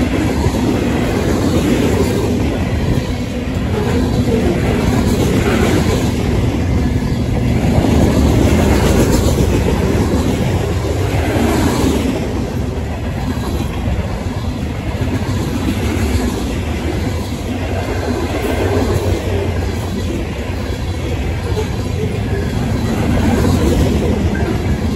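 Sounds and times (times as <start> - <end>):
freight train wheels on rail: 0.0 - 24.9.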